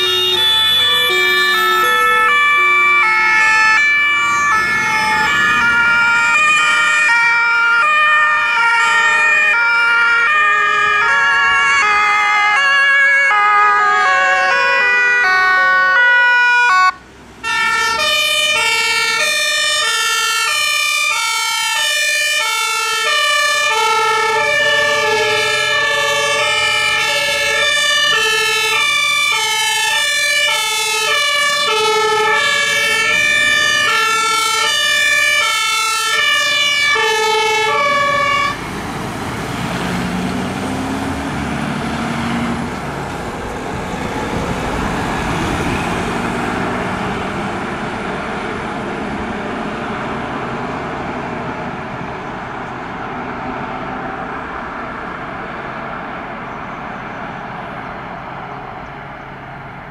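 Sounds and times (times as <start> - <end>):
two-tone sirens: 0.0 - 59.9.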